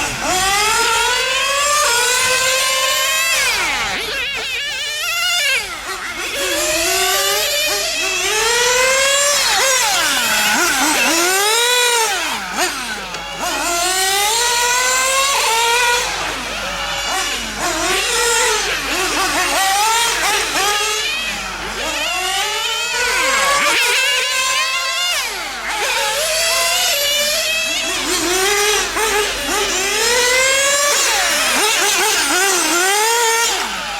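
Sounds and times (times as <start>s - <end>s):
small nitro engines revving: 0.0s - 33.9s.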